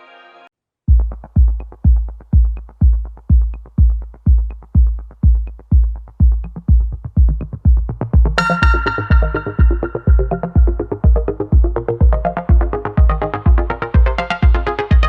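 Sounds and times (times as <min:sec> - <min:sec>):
bassline: 0:00.9 - 0:15.0
kick drum: 0:00.9 - 0:15.0
electronic dance music: 0:01.0 - 0:15.0.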